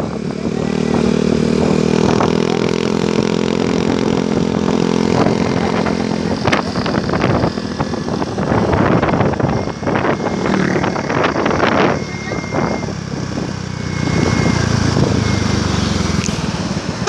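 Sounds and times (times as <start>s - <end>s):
bus engine droning: 0.0s - 17.0s
road traffic noise: 0.0s - 17.0s.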